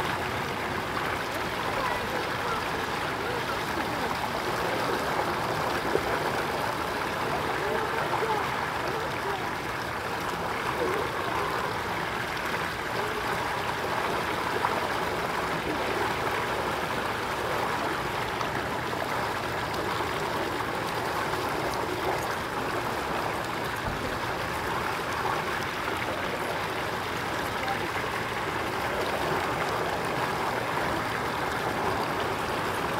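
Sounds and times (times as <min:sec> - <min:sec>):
water rushing over spillway: 0:00.0 - 0:32.9.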